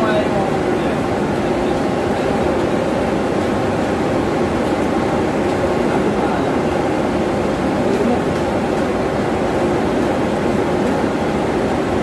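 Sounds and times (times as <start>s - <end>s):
fan and blower machinery drone: 0.0s - 12.0s.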